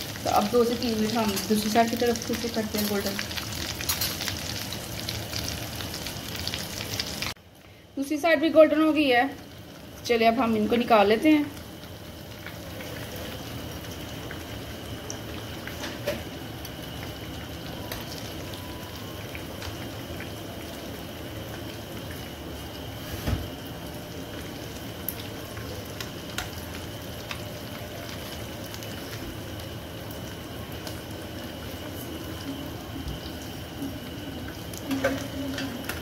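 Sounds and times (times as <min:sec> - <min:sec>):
cutlets sizzling in oil: 0:00.0 - 0:07.4, 0:08.0 - 0:36.0.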